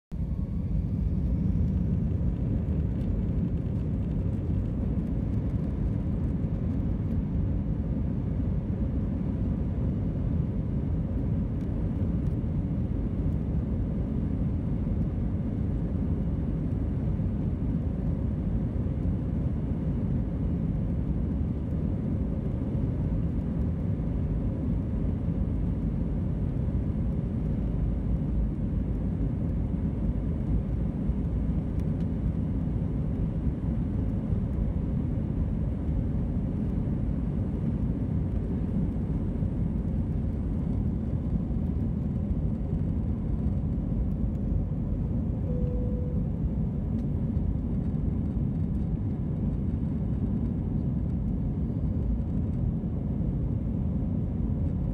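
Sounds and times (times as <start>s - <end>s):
jet engine cabin rumble: 0.1s - 54.9s.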